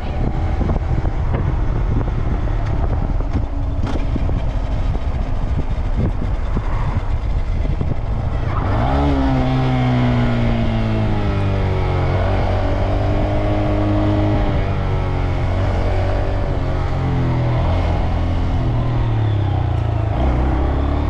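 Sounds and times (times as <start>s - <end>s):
motorcycle engine accelerating: 0.0s - 21.0s
wind rumble: 0.0s - 21.0s.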